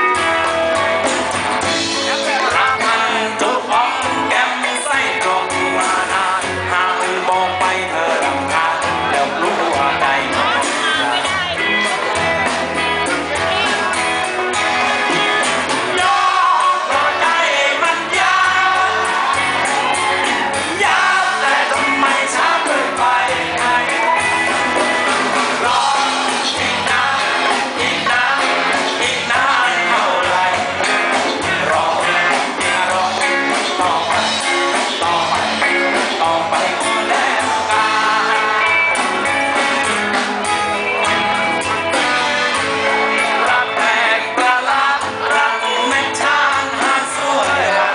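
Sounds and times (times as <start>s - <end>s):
live band playing: 0.0s - 47.9s
person singing into microphone: 1.8s - 12.2s, 15.8s - 39.8s, 42.8s - 47.9s.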